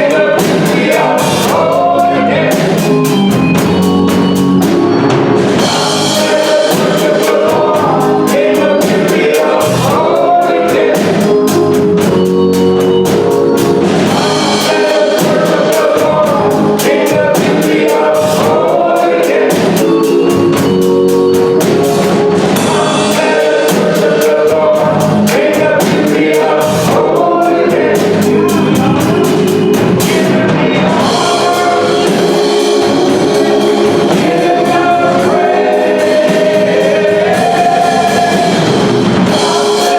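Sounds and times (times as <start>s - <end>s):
band with percussion: 0.0s - 39.9s
gospel choir singing: 0.0s - 39.9s.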